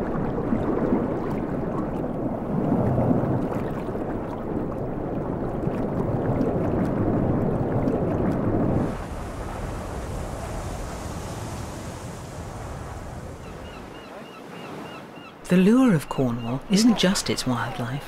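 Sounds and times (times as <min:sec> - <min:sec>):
muffled underwater rush: 0:00.0 - 0:15.5.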